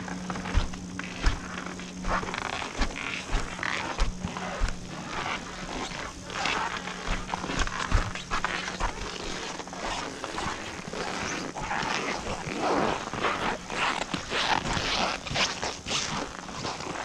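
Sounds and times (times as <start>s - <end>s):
clothing rustling: 0.0s - 17.0s
faint low hum: 0.0s - 17.0s
footsteps crunching through snow: 0.0s - 17.0s.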